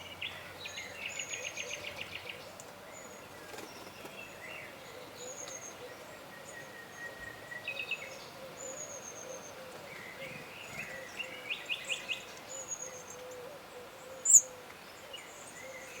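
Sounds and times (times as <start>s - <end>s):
birds singing and calling: 0.0s - 16.0s.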